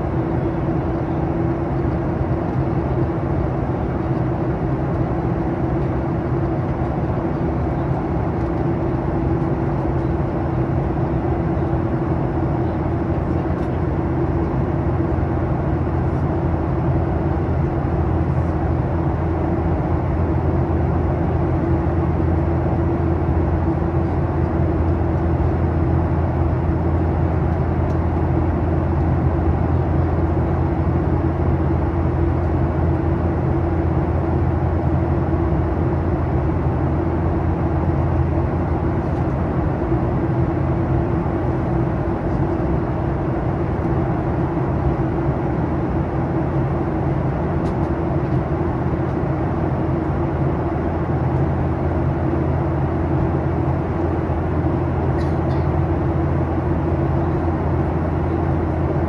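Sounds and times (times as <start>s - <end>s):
airplane cabin engine drone: 0.0s - 59.0s
constant low hum: 0.0s - 59.0s.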